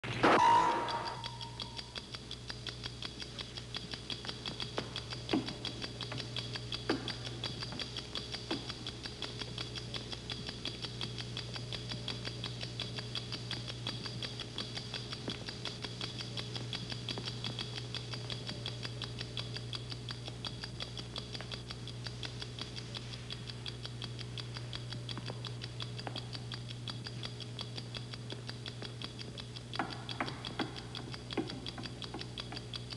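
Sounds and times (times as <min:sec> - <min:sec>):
clock ticking: 0:00.1 - 0:32.9.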